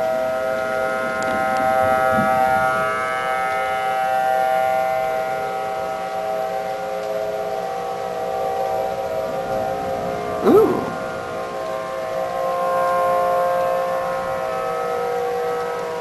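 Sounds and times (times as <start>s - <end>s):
warning sirens steady tone: 0.0s - 16.0s.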